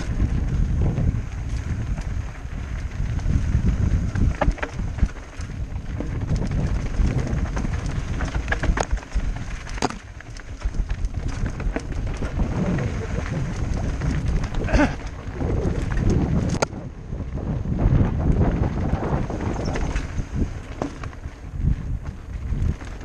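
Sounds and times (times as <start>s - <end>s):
bike clicks and rattles: 0.0s - 23.0s
tyre rumble over loose dirt: 0.0s - 23.0s
wind buffeting microphone: 0.0s - 23.0s.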